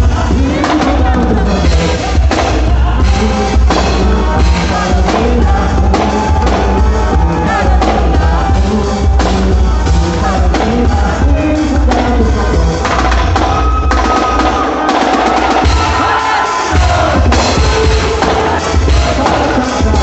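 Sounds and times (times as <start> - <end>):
heavy bass: 0.0 - 20.0
loud amplified dance music: 0.0 - 20.0
singing: 0.0 - 20.0
steady drum beat: 0.0 - 20.0.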